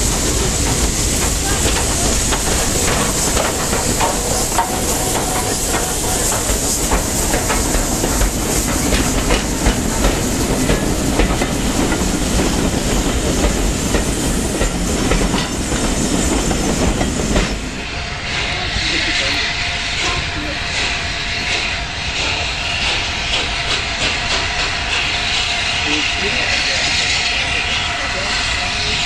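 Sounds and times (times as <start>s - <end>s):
train wheels clattering over rails: 0.0s - 17.8s, 18.4s - 29.0s
steam locomotive hiss: 0.0s - 29.0s.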